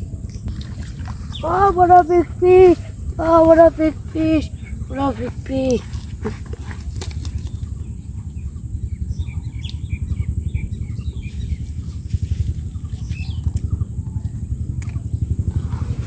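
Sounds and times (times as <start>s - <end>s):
low rumble: 0.0s - 16.0s
small birds chirping: 0.0s - 16.0s.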